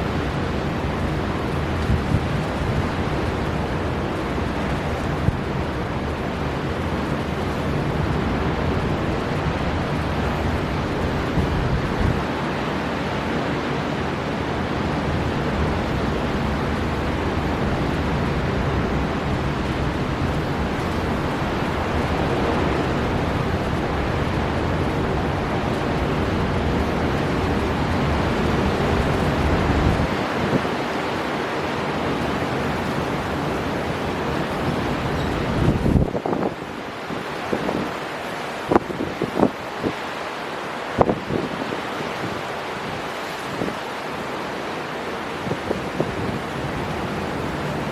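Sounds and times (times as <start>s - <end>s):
wind buffeting microphone: 0.0s - 13.2s, 14.7s - 38.0s, 45.3s - 47.9s
storm wind blowing: 0.0s - 40.2s, 41.0s - 47.9s
sea surf: 0.0s - 47.9s.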